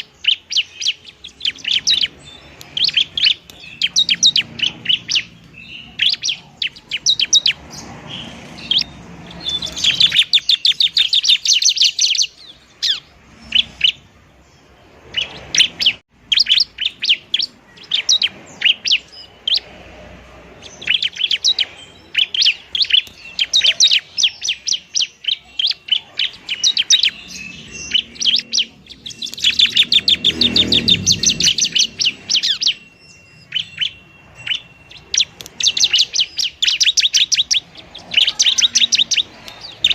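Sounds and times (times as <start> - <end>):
bird rapid trills: 0.0 - 14.2, 15.0 - 39.9
bird chirping: 0.0 - 39.9.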